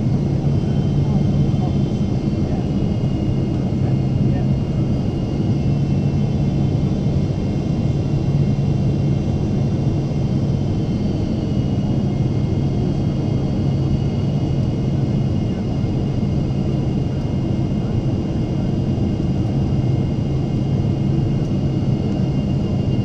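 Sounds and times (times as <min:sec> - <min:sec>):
airplane cabin engine drone: 0:00.0 - 0:23.0
faint high engine whine: 0:00.0 - 0:23.0.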